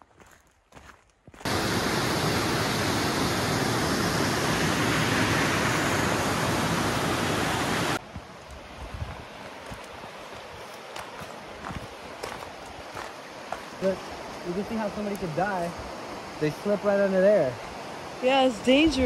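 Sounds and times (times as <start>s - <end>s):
waterfall rushing: 1.4s - 8.0s, 9.2s - 19.0s
river running over rocks: 1.4s - 19.0s.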